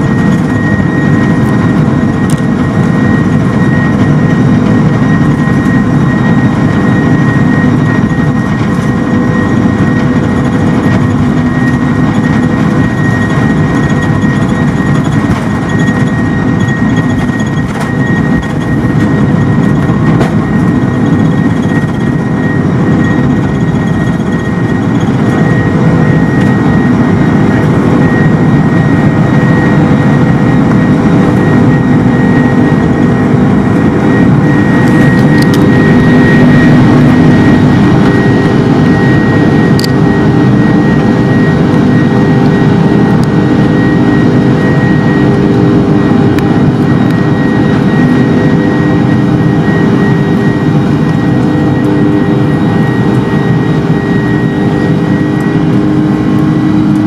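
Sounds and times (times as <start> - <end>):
jet engine cabin roar: 0.0 - 57.0
steady whine and hum: 0.0 - 57.0.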